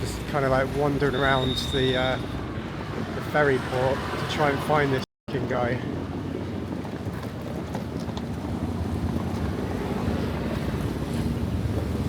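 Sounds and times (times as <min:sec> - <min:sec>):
wind on microphone: 0:01.0 - 0:12.0.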